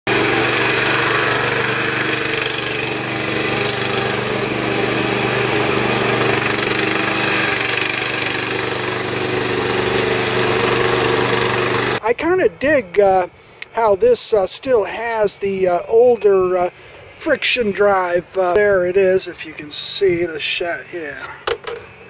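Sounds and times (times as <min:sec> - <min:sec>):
riding mower engine running: 0:00.0 - 0:22.0.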